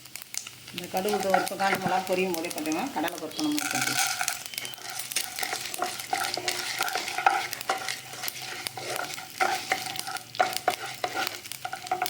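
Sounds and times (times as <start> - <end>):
spices sizzling and popping in oil: 0.0 - 12.0
spoon scraping a pan: 0.9 - 12.0.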